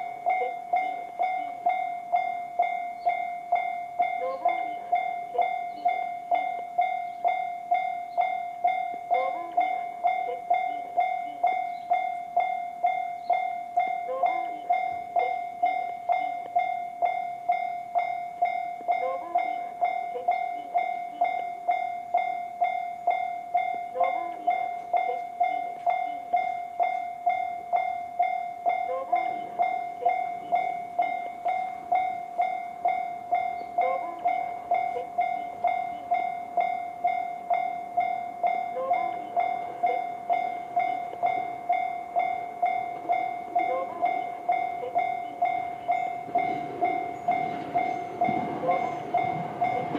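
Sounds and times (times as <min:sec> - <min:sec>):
level crossing warning bell: 0:00.0 - 0:49.9.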